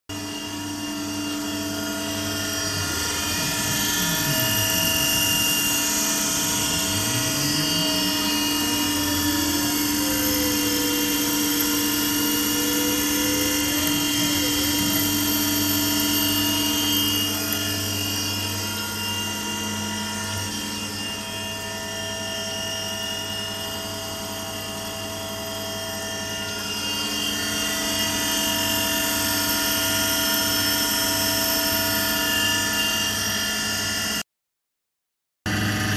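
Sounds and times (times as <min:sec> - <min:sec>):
milling machine whine: 0:00.1 - 0:34.2, 0:35.5 - 0:35.9.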